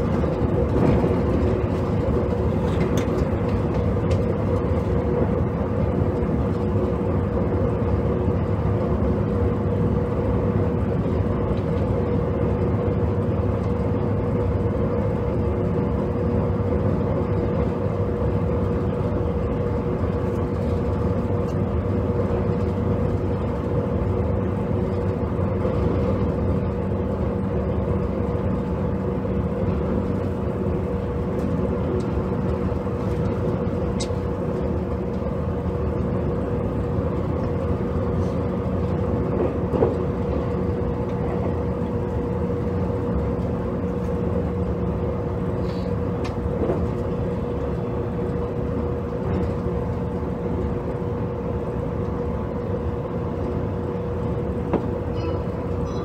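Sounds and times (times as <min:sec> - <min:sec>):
constant hum: 0:00.0 - 0:56.0
wheels rumbling on rail: 0:00.0 - 0:56.0.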